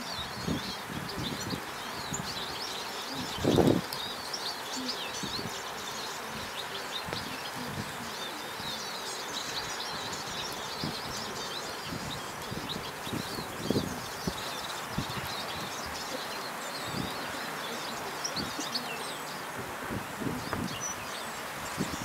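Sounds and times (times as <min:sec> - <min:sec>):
outdoor background noise: 0:00.0 - 0:22.0
small birds chirping and singing: 0:00.0 - 0:22.0.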